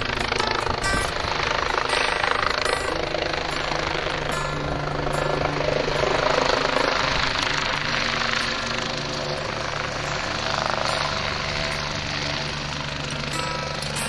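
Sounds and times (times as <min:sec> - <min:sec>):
helicopter running: 0:00.0 - 0:14.0.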